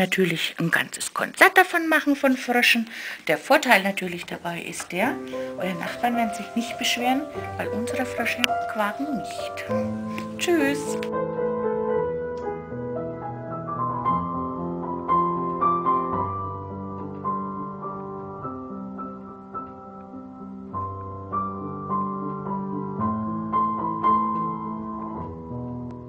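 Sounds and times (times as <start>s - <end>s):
piano music: 3.6s - 26.0s.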